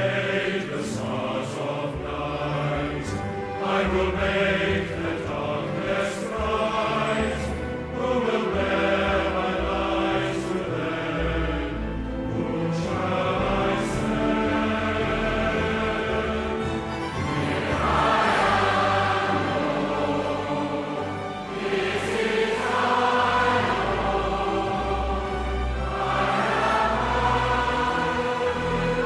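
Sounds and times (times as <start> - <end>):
choir singing held notes: 0.0 - 29.0.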